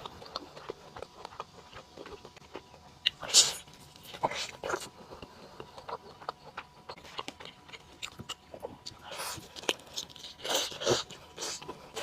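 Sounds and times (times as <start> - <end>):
chewing burger: 0.0 - 12.0.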